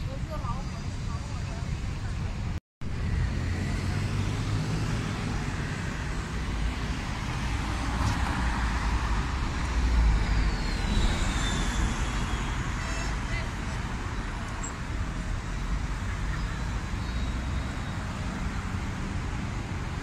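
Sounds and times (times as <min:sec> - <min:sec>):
cars passing: 0:02.8 - 0:20.0.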